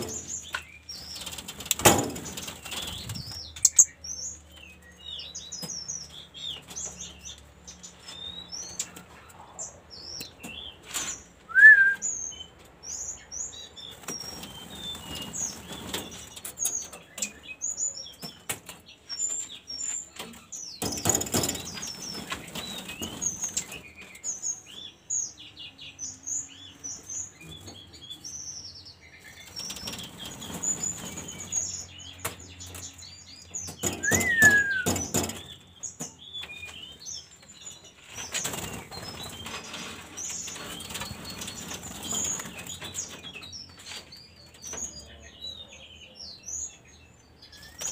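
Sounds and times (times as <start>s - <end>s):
bird chirping: 0.0s - 47.9s.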